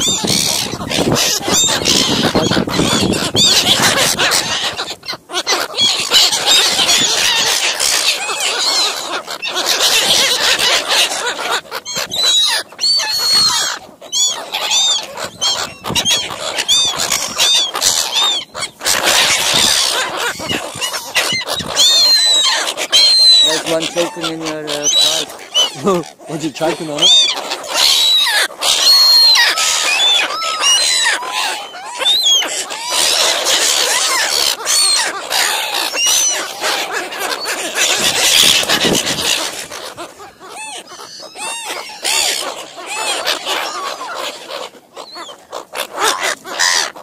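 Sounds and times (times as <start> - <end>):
gulls squawking: 0.0 - 47.0.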